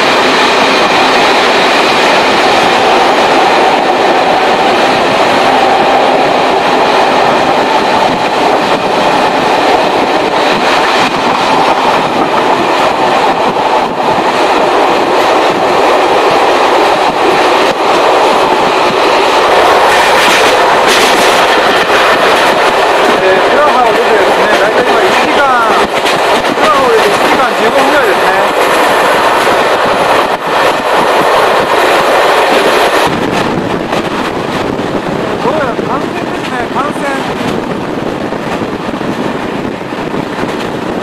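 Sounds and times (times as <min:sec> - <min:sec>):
train wheels on rails: 0:00.0 - 0:41.0.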